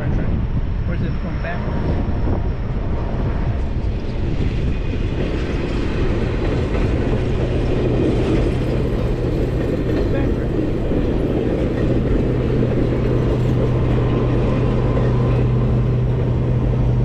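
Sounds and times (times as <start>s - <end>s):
diesel locomotive rumbling past: 0.0s - 17.0s
engine hum: 0.0s - 17.0s.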